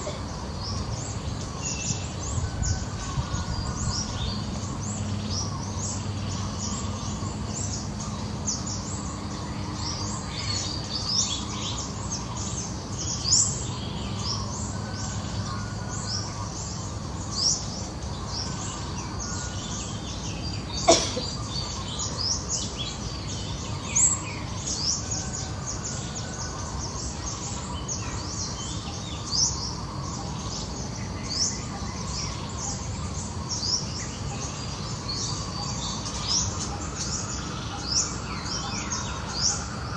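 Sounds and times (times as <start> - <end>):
birds chirping: 0.0 - 39.9
outdoor background noise: 0.0 - 39.9.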